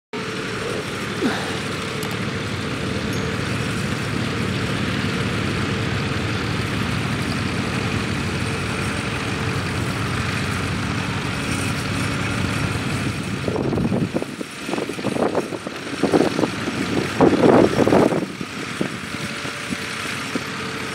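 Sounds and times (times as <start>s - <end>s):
tractor engine running under load: 0.2s - 20.9s.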